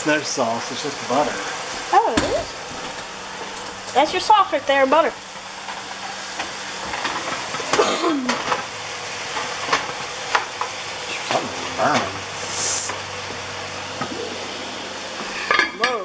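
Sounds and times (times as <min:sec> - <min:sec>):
mushrooms sizzling in a frying pan: 0:00.0 - 0:16.0.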